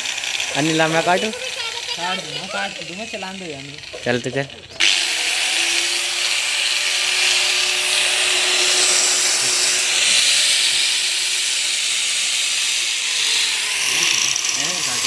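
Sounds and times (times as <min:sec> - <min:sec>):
angle grinder cutting sheet metal: 0:00.0 - 0:15.0
faint motor hum: 0:00.0 - 0:15.0.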